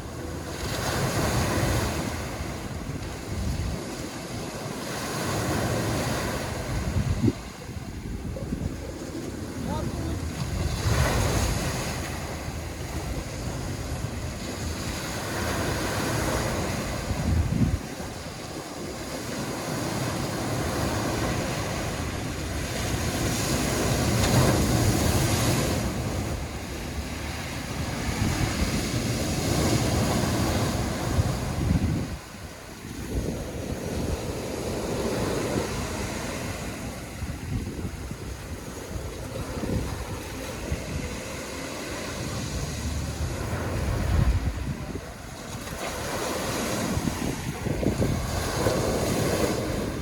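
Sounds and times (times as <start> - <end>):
sea waves washing onto shore: 0.0 - 50.0
wind rumble on microphone: 0.0 - 50.0.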